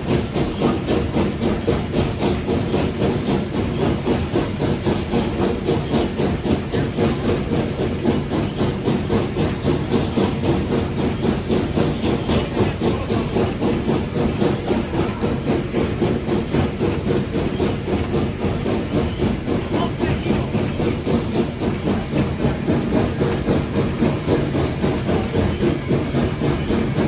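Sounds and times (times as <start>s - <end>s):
steam hissing: 0.0s - 27.0s
steam locomotive exhaust chuffs: 0.0s - 27.0s.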